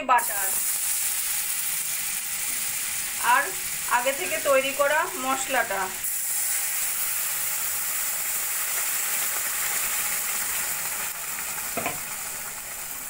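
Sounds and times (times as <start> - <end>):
paste sizzling in hot butter: 0.2 - 13.0.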